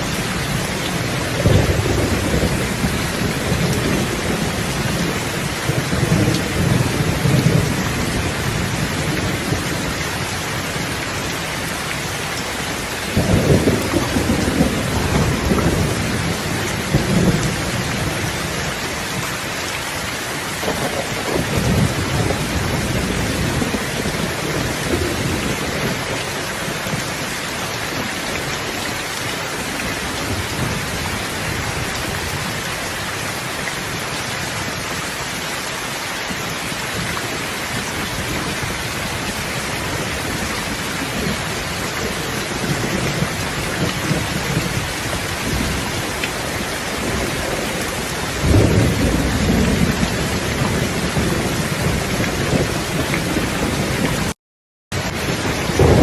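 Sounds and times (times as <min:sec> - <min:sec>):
thunder rumbling: 0:00.0 - 0:11.0, 0:12.1 - 0:18.7, 0:20.5 - 0:32.7, 0:36.3 - 0:56.0
heavy rain falling: 0:00.0 - 0:56.0.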